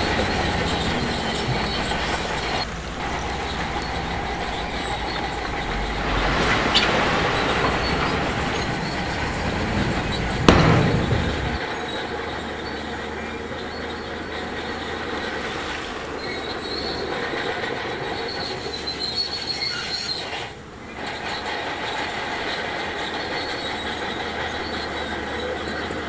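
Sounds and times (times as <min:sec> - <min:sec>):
bulldozer engine running: 0:00.0 - 0:26.0
steel tracks squealing and clanking: 0:00.0 - 0:26.0.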